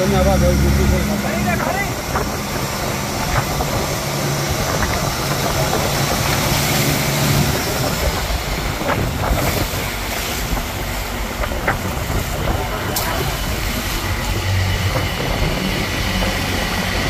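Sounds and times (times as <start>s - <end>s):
boat engine humming: 0.0s - 17.0s
wake splashing along hull: 0.0s - 17.0s.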